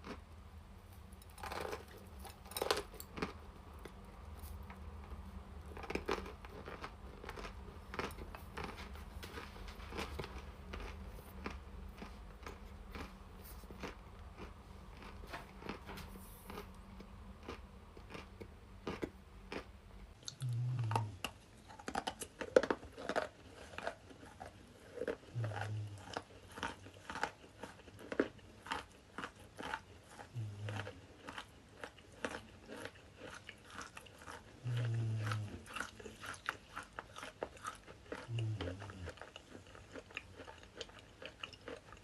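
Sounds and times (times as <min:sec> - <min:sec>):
chewing chalk crunching: 0:01.0 - 0:42.0.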